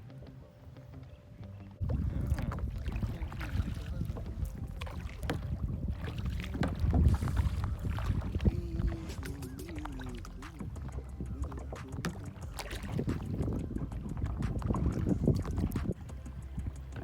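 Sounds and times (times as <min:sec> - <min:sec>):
paddles splashing in water: 0:01.8 - 0:17.0
wind buffeting microphone: 0:01.8 - 0:17.0.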